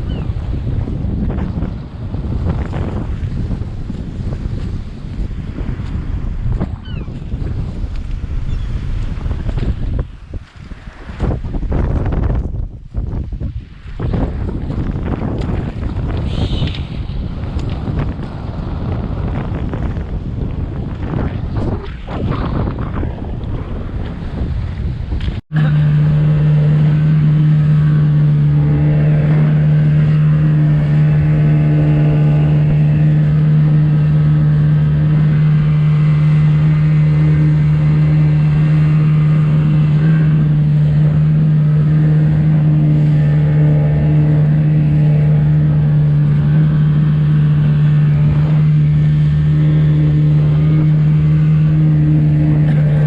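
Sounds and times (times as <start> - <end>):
boat motor humming: 0.0 - 53.0
wind noise: 0.0 - 53.0.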